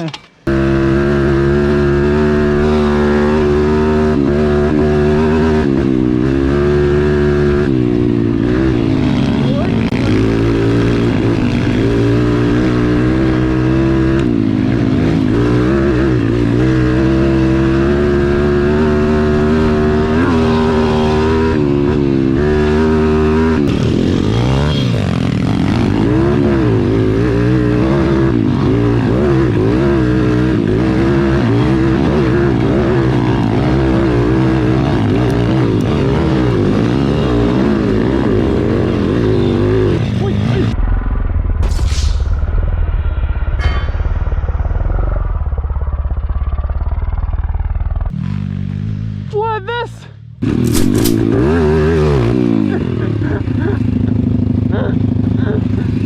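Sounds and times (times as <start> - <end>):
pit bike engines revving: 0.0 - 40.8, 45.5 - 56.0.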